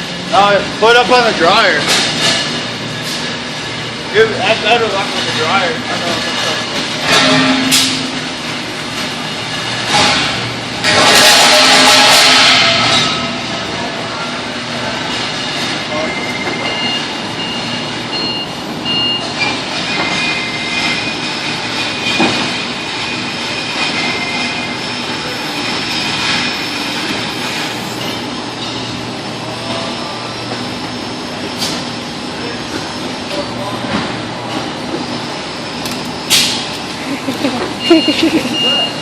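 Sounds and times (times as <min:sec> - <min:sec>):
forklift running: 0:00.0 - 0:39.0.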